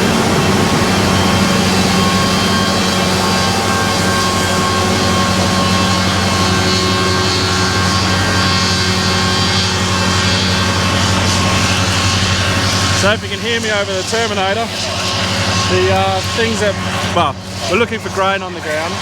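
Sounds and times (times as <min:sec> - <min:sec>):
combine harvester running: 0:00.0 - 0:19.0.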